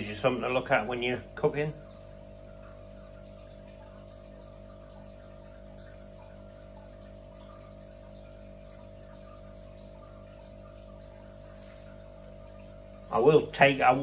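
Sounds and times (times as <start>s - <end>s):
aquarium filter hum: 0.0s - 14.0s
water trickling: 0.0s - 14.0s.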